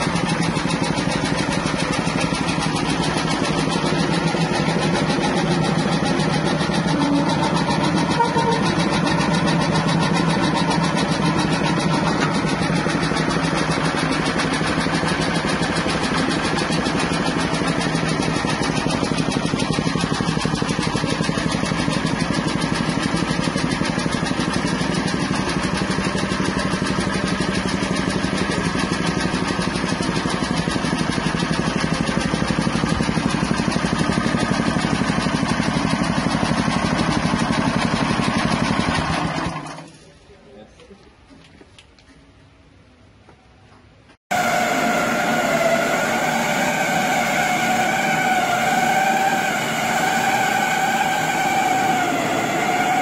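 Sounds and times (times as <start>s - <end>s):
small petrol engine running: 0.0s - 40.0s, 44.3s - 53.0s.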